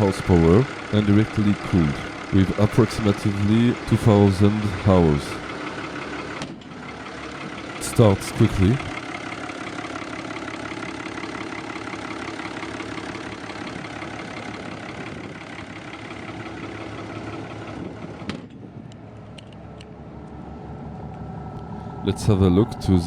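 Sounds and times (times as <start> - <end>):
marine diesel engine idling: 0.0 - 23.0.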